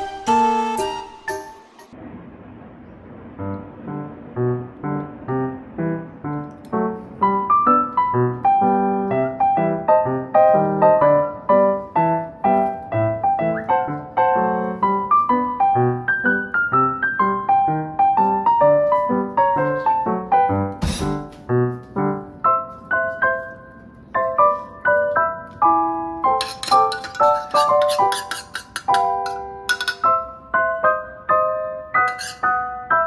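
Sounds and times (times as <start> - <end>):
background piano music: 0.0 - 2.0, 3.1 - 33.0.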